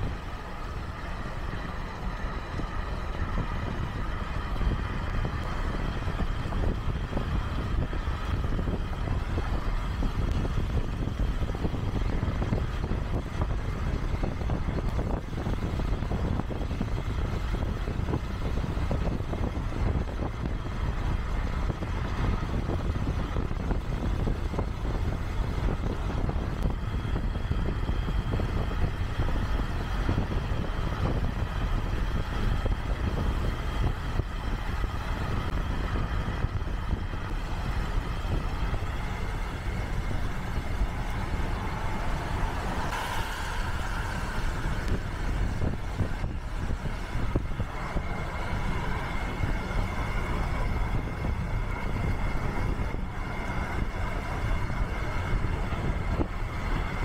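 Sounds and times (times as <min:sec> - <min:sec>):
tyres rumbling on road: 0:00.0 - 0:57.0.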